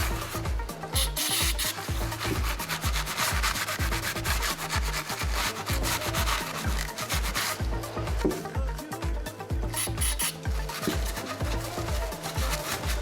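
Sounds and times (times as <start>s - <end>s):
abrasive scrubbing on metal: 0.0s - 8.6s, 9.7s - 13.0s
electronic music with bass beat: 0.0s - 13.0s.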